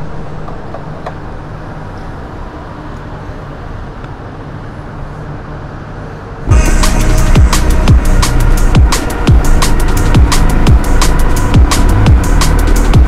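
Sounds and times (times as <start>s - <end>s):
vehicle drone with road noise: 0.0s - 13.0s.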